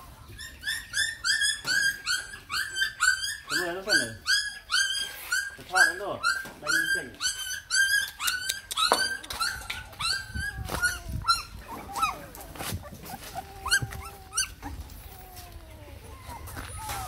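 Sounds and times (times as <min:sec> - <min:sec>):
puppies whimpering and squealing: 0:00.0 - 0:17.0.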